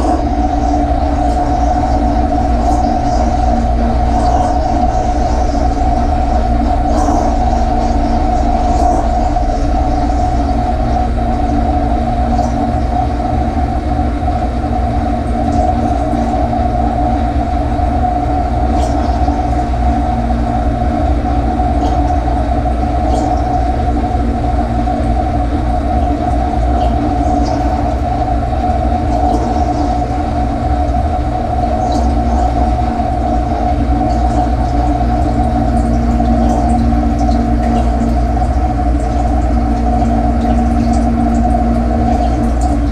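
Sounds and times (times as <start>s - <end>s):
dishwasher motor and pump humming: 0.0s - 42.9s.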